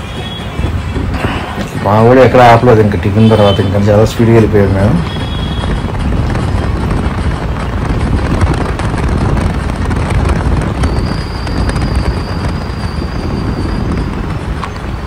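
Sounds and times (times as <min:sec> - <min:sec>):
road and wind rumble in car: 0:00.0 - 0:15.0.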